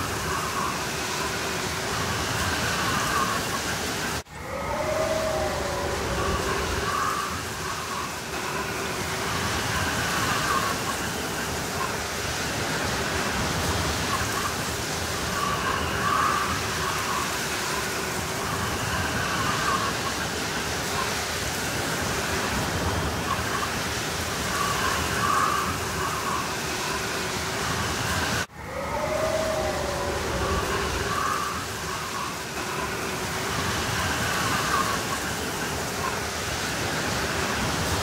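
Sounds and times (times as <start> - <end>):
blizzard wind whistling: 0.0 - 38.0.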